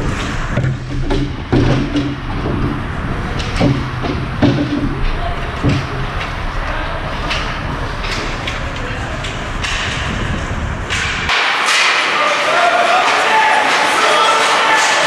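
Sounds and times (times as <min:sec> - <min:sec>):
hockey sticks and puck clacking: 0:00.0 - 0:15.0.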